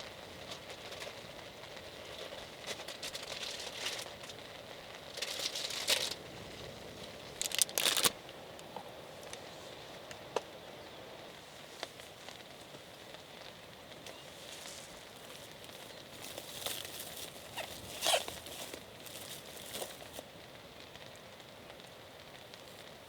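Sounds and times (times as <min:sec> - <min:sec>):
crinkling rustling handling noise: 0:00.0 - 0:10.3, 0:11.5 - 0:20.4
rain hissing: 0:00.0 - 0:23.0.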